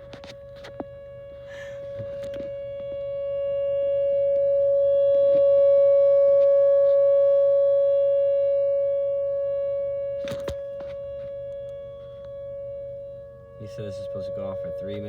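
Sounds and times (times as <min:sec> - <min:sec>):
tornado warning siren: 0:00.0 - 0:15.0.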